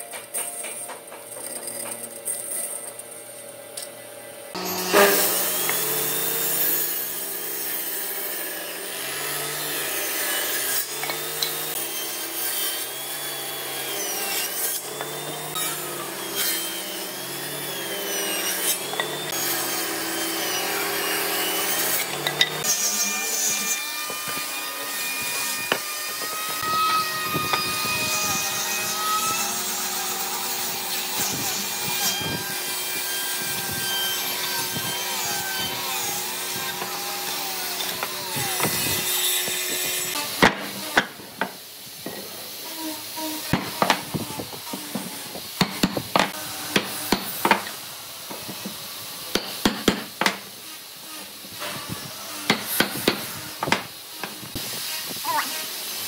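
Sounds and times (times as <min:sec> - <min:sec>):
angle grinder sanding wood: 0:04.5 - 0:56.0.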